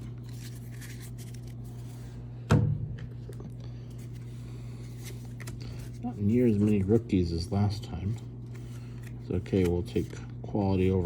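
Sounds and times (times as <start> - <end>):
cards rustling and ticking: 0.0 - 2.0, 3.2 - 11.0
steady low hum: 0.0 - 11.0.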